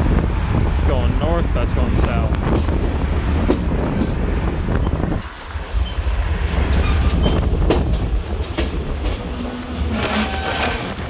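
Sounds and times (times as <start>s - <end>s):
train rumble: 0.0s - 11.0s
wheels clacking over rail joints: 2.0s - 11.0s.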